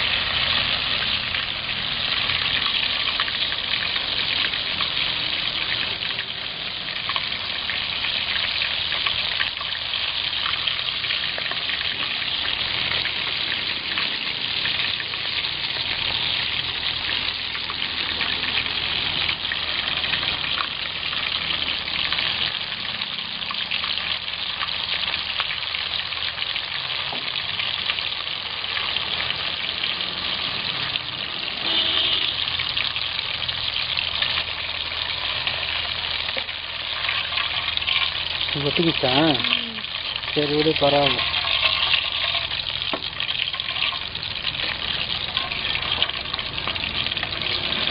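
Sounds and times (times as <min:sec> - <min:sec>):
crabs deep-frying in oil: 0:00.0 - 0:47.9.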